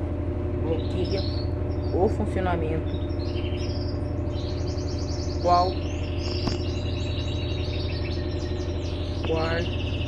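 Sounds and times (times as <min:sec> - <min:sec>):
birds chirping: 0:00.0 - 0:10.0
washing machine humming: 0:00.0 - 0:10.0.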